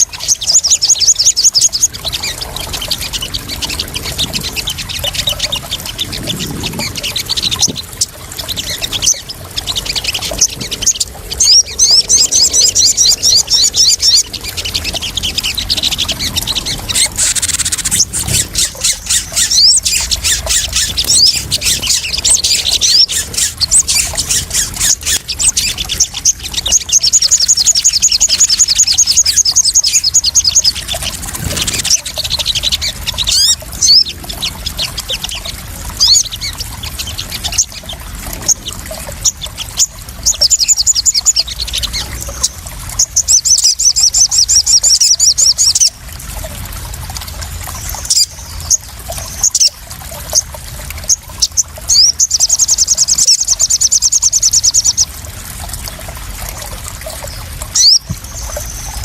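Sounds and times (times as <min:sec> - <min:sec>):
bird singing high fast trills: 0:00.0 - 0:46.0, 0:57.2 - 0:59.0
water splashing and trickling: 0:00.0 - 0:59.0.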